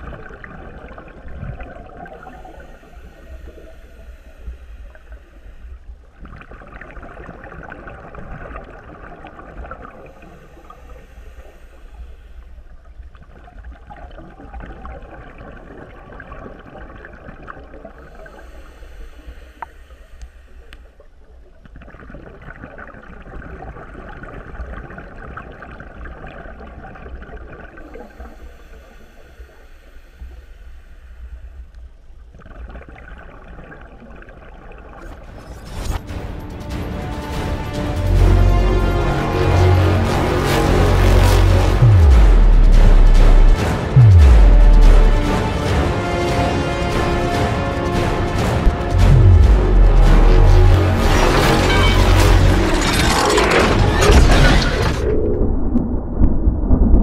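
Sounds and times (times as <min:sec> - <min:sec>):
muffled underwater rushing water: 0:00.0 - 0:57.0.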